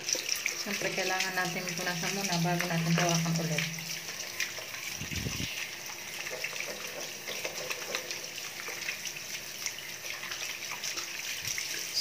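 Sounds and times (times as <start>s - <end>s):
water running from sink tap: 0.0s - 12.0s.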